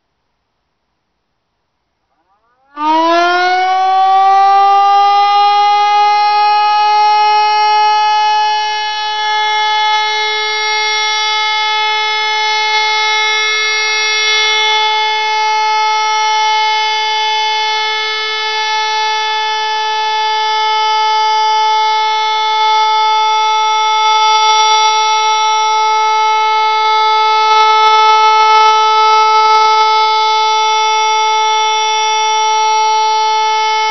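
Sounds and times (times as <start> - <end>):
steady siren tone: 2.1 - 33.9.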